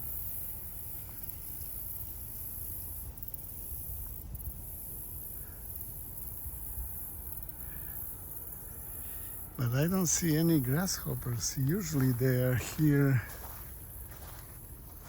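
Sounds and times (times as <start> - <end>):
constant low rumble: 0.0 - 15.0
insect chorus: 0.0 - 15.0.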